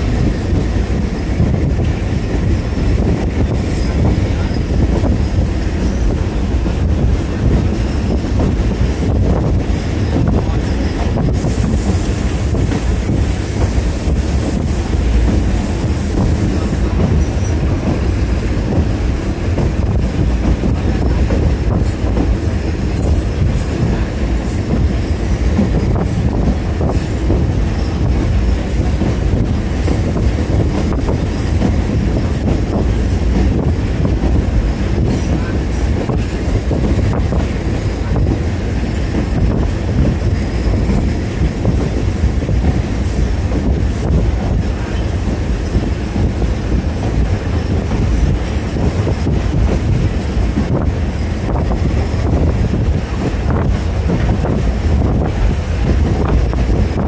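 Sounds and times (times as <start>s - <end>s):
train low rumble: 0.0s - 57.0s
wheels clattering on rails: 0.0s - 57.0s.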